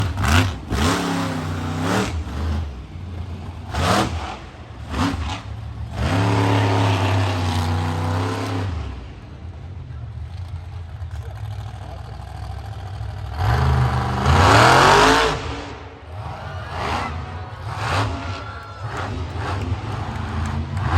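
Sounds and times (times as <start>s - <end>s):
truck engine revving: 0.0s - 20.9s.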